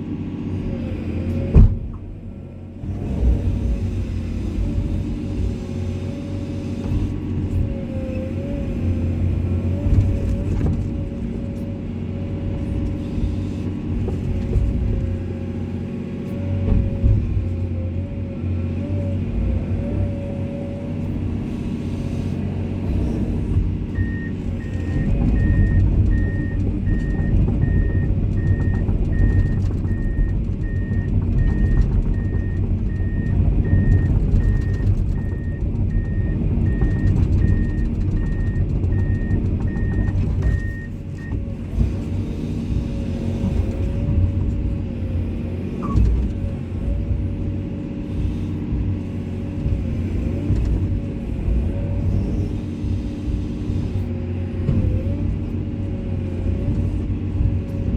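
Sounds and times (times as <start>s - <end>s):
excavator diesel engine under load: 0.0s - 57.9s.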